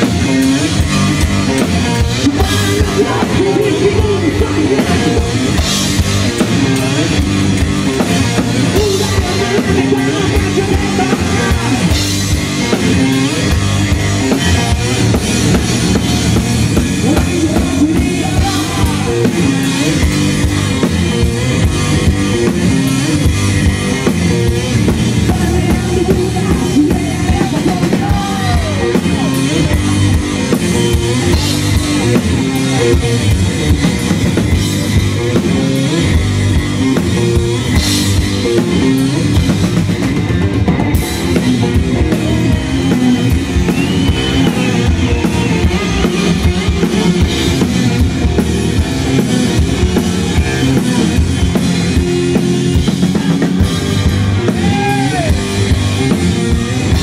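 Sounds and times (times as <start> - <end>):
electric guitar: 0.0 - 57.0.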